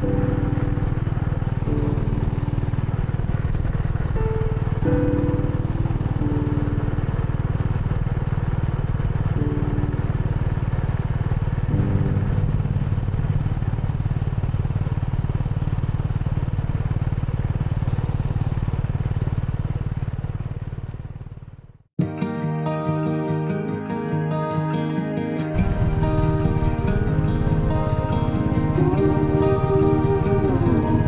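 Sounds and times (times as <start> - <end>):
motorcycle engine running: 0.0 - 21.9, 25.5 - 31.0.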